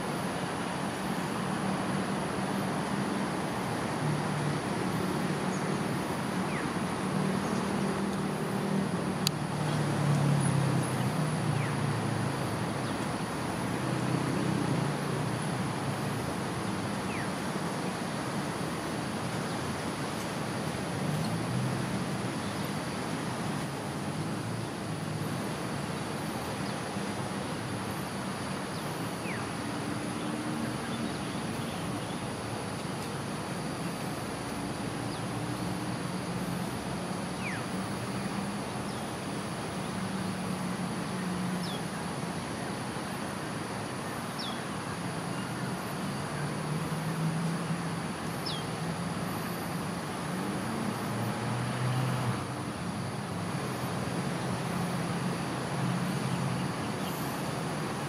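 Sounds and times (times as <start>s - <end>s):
high insect drone: 0.0s - 58.0s
road traffic rumble: 0.0s - 58.0s.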